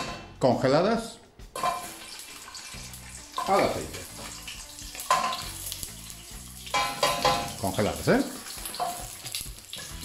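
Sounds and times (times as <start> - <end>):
prawns sizzling in hot oil: 1.6 - 10.0.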